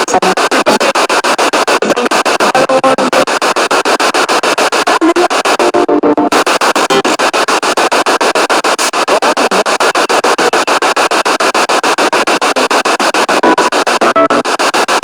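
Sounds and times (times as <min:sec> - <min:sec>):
radio static chopped rapidly: 0:00.0 - 0:15.0
snatches of broadcast sound: 0:00.0 - 0:15.0.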